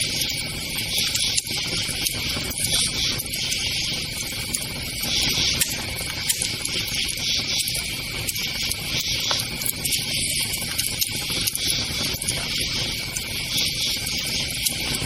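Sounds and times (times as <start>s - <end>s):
campfire crackling and popping: 0.0s - 15.0s
night insects chirring: 0.0s - 15.0s.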